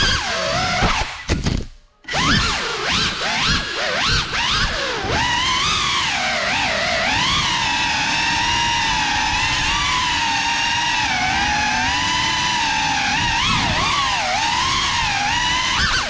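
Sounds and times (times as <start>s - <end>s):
drone motors whining: 0.0s - 1.2s, 2.0s - 16.0s.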